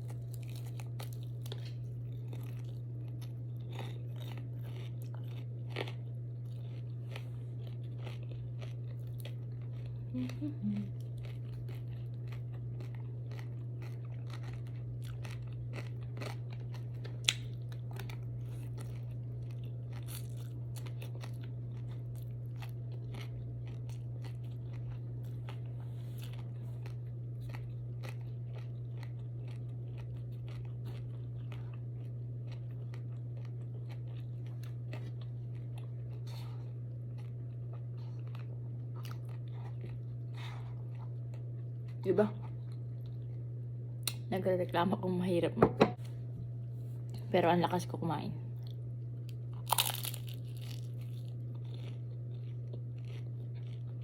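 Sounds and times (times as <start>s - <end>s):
person chewing crunchy food: 0.0s - 44.2s, 48.6s - 54.0s
low hum: 0.0s - 54.0s.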